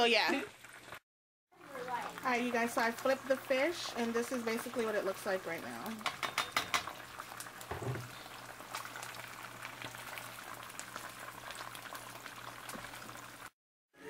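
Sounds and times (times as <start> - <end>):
fish sizzling in hot oil: 0.0 - 1.0, 1.6 - 13.6
oil popping and crackling: 0.0 - 1.0, 1.6 - 13.5.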